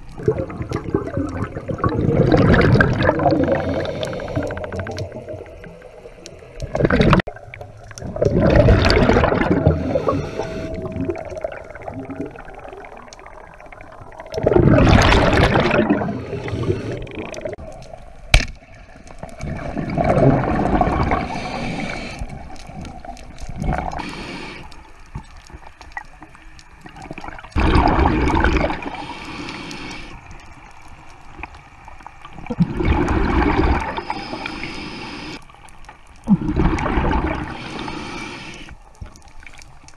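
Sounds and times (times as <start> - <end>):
exhaled bubbles gurgling underwater: 0.0 - 39.9
underwater water noise: 0.0 - 39.9.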